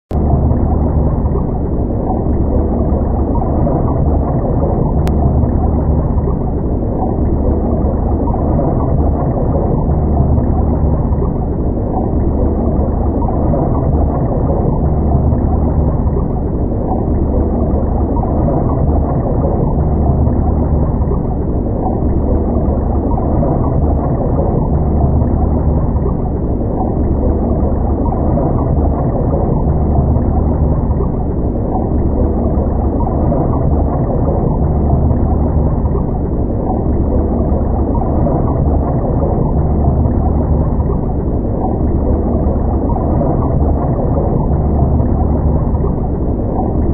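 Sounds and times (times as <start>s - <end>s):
muffled underwater rumble: 0.1s - 46.9s.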